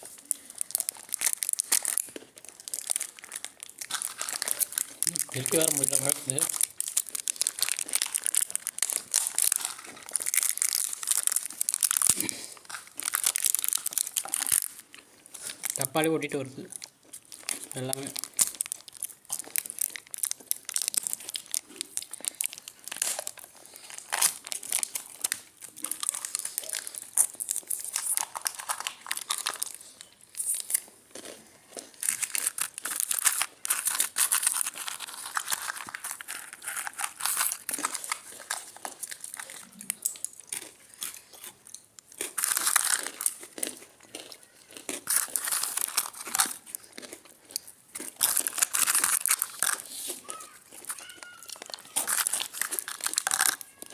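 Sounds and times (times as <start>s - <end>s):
crinkling and rustling: 0.0s - 44.1s, 44.9s - 53.9s.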